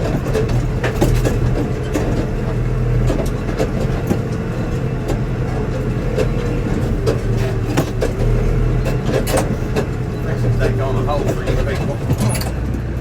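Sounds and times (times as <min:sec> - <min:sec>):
loose rattles and clanks: 0:00.0 - 0:12.8
engine running: 0:00.0 - 0:13.0.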